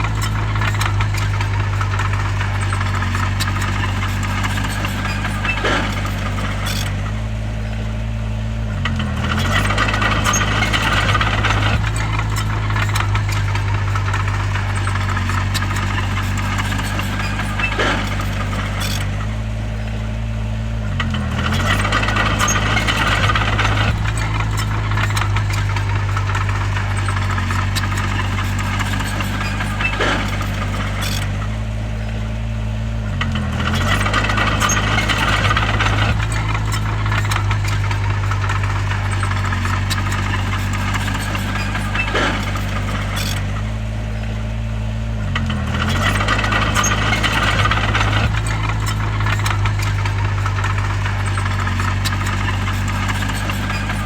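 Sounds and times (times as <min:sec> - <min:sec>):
bulldozer diesel engine droning: 0:00.0 - 0:54.0
rattling and grinding: 0:00.0 - 0:54.0.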